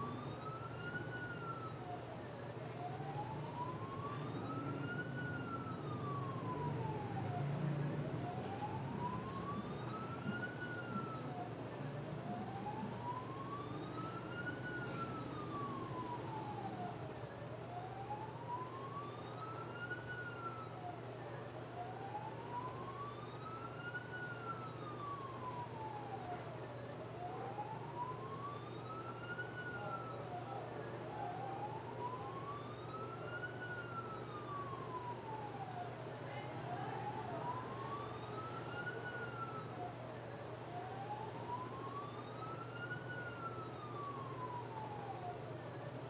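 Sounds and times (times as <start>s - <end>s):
siren wailing: 0.0s - 46.0s.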